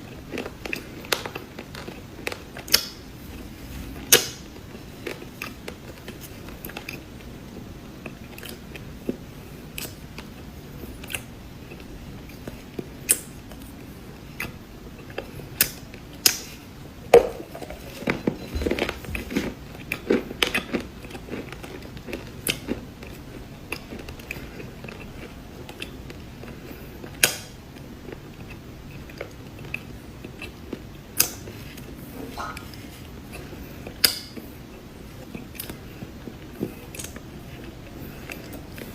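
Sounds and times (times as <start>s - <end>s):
cookies being chewed crunching: 0.0s - 38.9s.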